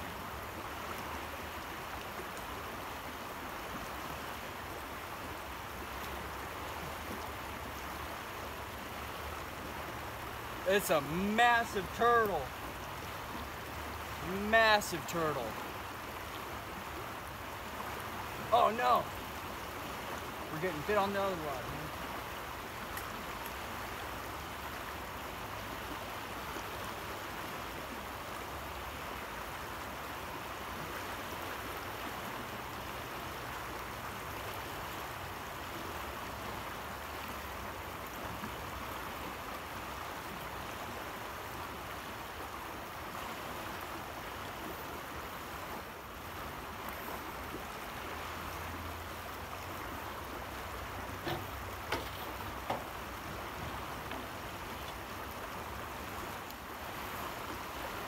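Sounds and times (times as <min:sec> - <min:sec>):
fast-flowing river rushing: 0:00.0 - 0:58.0.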